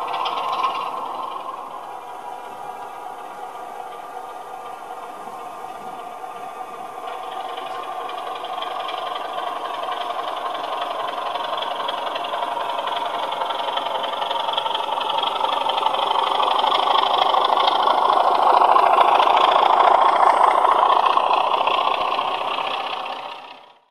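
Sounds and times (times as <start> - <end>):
model locomotive engine sound: 0.0 - 23.9.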